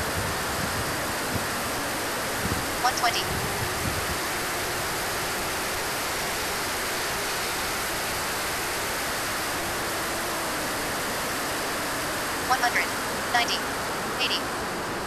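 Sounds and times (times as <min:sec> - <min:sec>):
jet turbine running: 0:00.0 - 0:15.0.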